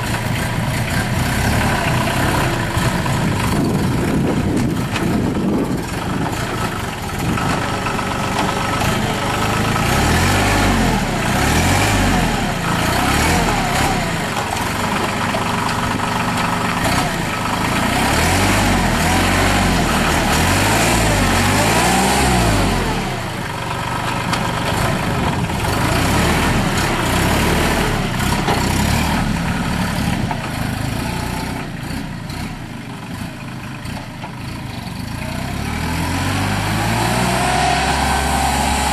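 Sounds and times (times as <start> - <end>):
tractor diesel engine revving: 0.0 - 38.9.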